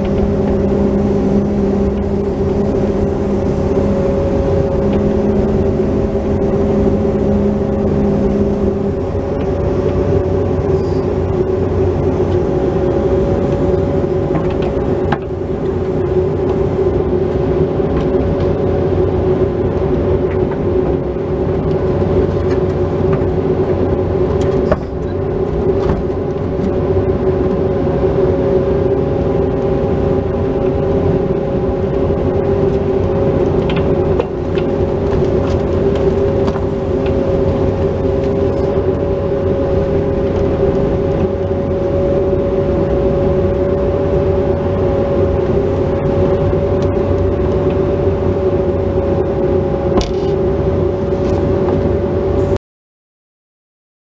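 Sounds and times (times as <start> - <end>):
excavator engine and hydraulics: 0.0 - 52.6.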